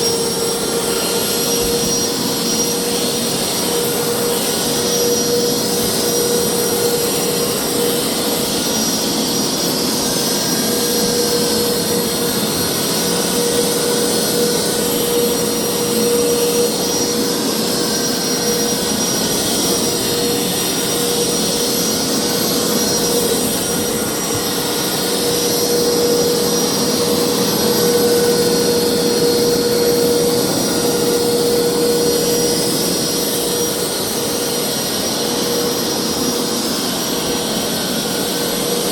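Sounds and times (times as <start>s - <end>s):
carpet cleaner suction whine: 0.0s - 38.9s.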